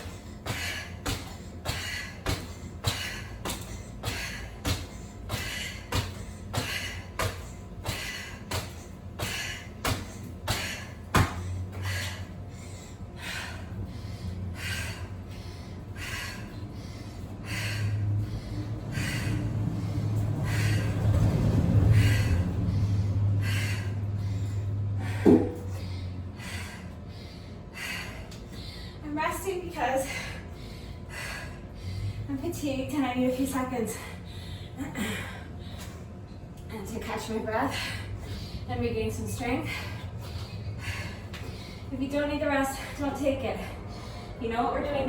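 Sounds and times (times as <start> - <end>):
person breathing hard: 0.0 - 32.3, 33.9 - 36.3, 37.5 - 44.4
low steady hum: 0.0 - 45.0.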